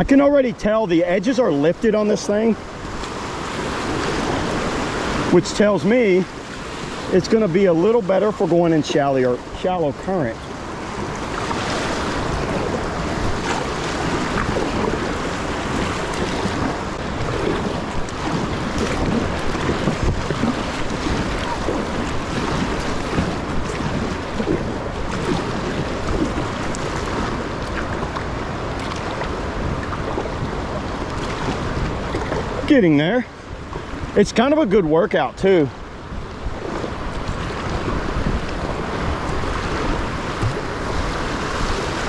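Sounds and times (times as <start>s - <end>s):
paddle strokes splashing: 0.0s - 42.0s
river water rushing and gurgling: 0.0s - 42.0s
wind buffeting microphone: 0.0s - 42.0s.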